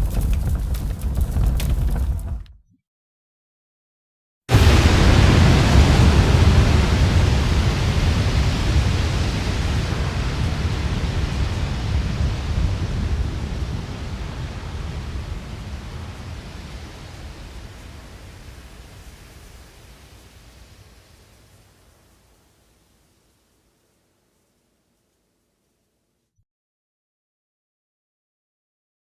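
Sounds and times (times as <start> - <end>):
dense hiss over deep rumble: 0.0 - 2.5, 4.5 - 25.3.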